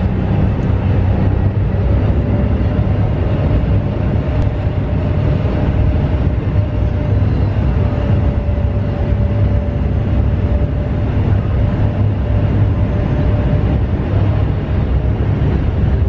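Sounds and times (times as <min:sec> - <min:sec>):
ferry engines rumbling: 0:00.0 - 0:16.0.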